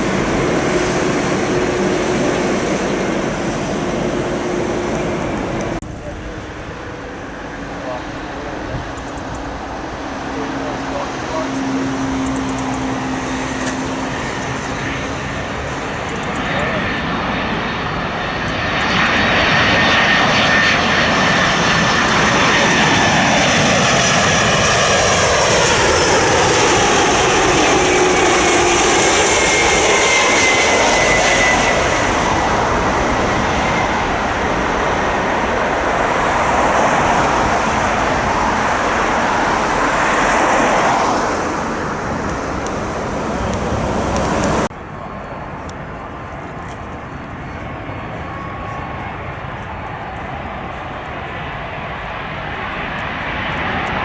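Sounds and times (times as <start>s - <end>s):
jet airliner passing overhead: 0.0s - 54.0s.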